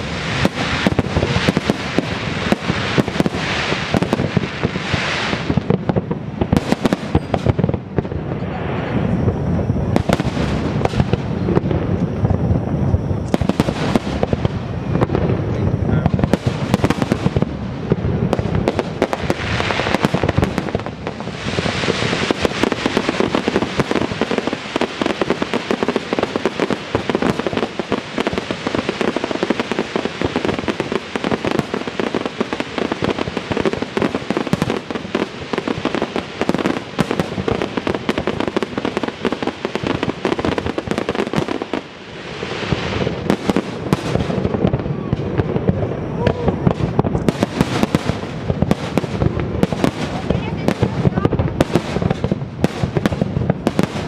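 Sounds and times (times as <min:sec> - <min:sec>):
fireworks booming: 0:00.0 - 0:54.0
fireworks crackling: 0:00.0 - 0:54.0.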